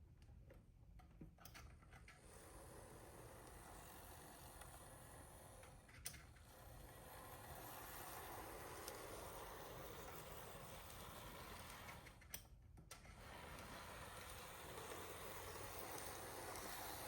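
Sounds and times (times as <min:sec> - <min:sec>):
model locomotive motor whirring: 0:02.1 - 0:12.4, 0:13.1 - 0:17.0.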